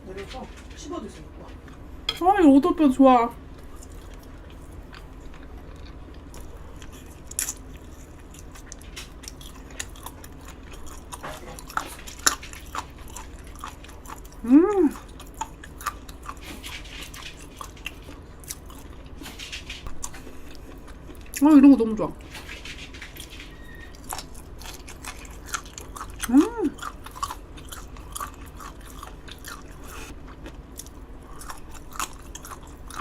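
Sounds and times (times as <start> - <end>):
close chewing with wet clicks: 3.5 - 19.2, 19.8 - 21.5, 23.1 - 33.0.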